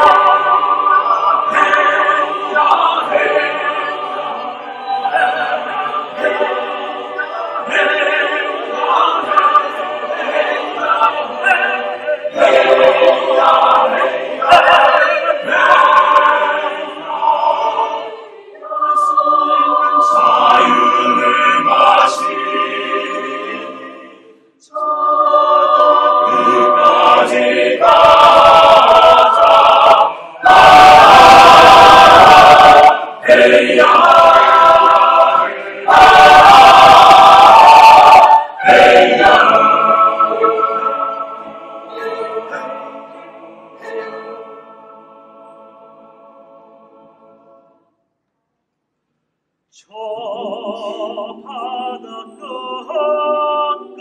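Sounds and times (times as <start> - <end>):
string ensemble: 0.0 - 47.5
mixed choir singing: 0.0 - 48.0, 49.8 - 54.0.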